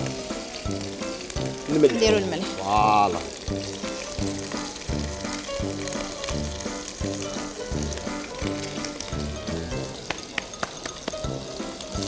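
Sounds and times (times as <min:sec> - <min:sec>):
background music with steady beat: 0:00.0 - 0:12.0
meat sizzling in a frying pan: 0:00.0 - 0:12.0.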